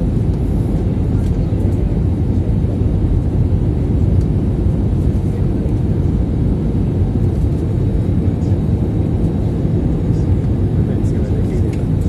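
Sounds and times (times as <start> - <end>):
airplane cabin engine noise: 0.0 - 12.0.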